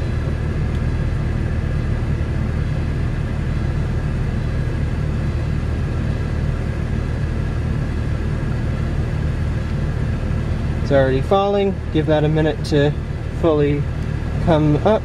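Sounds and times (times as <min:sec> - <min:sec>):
car engine idling: 0:00.0 - 0:15.0
ventilation fan blowing: 0:00.0 - 0:15.0.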